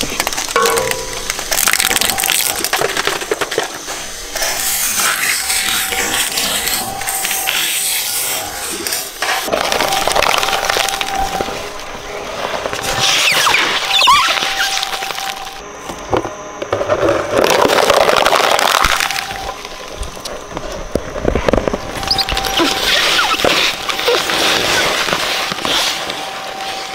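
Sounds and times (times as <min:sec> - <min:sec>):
shredder crunching plastic toys: 0:00.0 - 0:15.6, 0:16.8 - 0:26.9.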